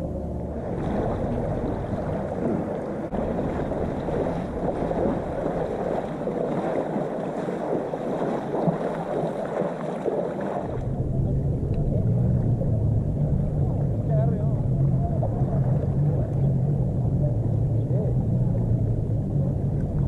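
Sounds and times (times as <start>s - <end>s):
water splashing from wading: 0.0s - 20.0s
wind noise on microphone: 0.0s - 20.0s.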